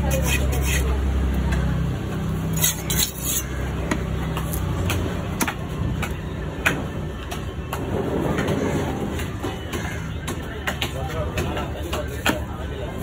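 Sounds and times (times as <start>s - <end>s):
low rumble of engines: 0.0s - 13.0s
market noise: 0.0s - 13.0s.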